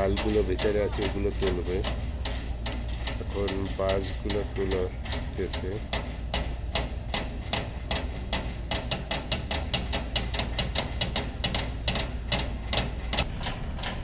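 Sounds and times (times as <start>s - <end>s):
low steady rumble: 0.0s - 14.0s
rapid sharp knocks: 0.0s - 14.0s.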